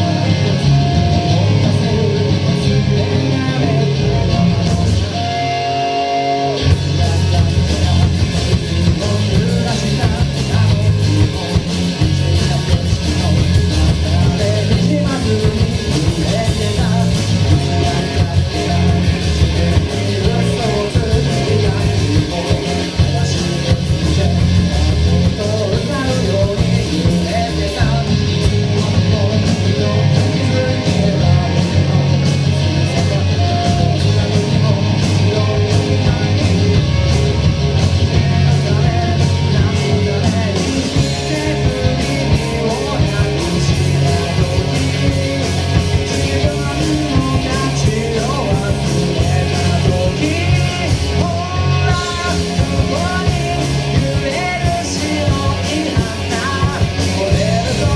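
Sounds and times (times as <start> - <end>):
live rock band playing: 0.0 - 57.9.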